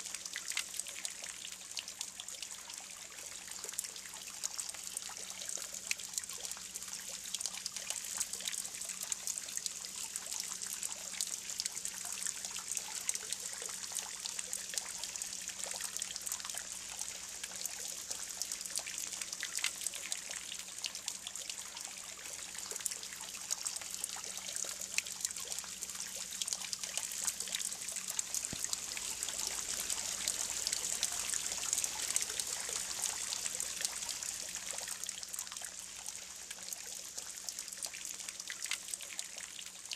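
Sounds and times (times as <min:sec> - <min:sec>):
water pouring into stone pool: 0:00.0 - 0:39.9.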